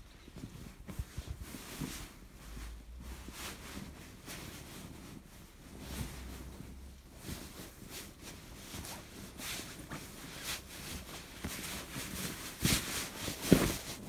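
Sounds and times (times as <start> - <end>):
fabric rustling: 0.0 - 14.0
soft thumps of cushions: 0.0 - 14.0.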